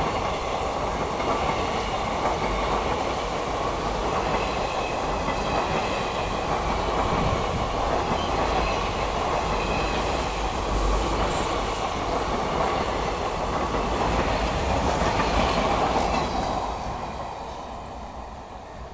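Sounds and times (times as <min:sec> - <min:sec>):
train wheels rushing on rails: 0:00.0 - 0:18.9.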